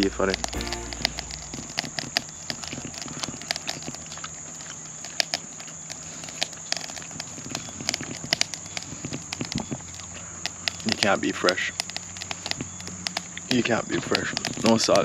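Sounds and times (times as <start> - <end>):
wet chewing and lip smacks: 0.0 - 15.0.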